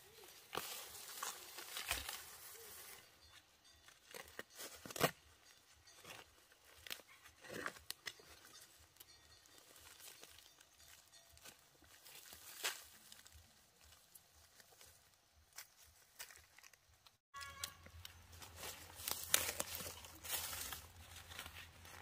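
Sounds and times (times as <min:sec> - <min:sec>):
leaves rustling and crinkling: 0:00.0 - 0:22.0.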